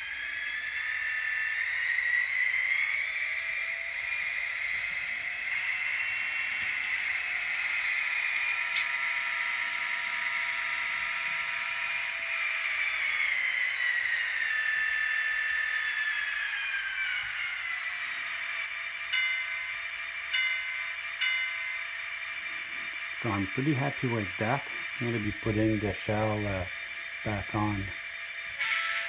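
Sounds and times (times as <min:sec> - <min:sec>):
model locomotive engine whine: 0:00.0 - 0:29.0.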